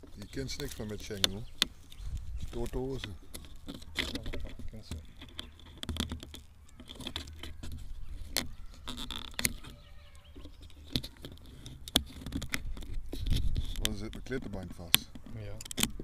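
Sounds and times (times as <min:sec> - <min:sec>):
handling clicks taps and rustles: 0:00.0 - 0:16.0.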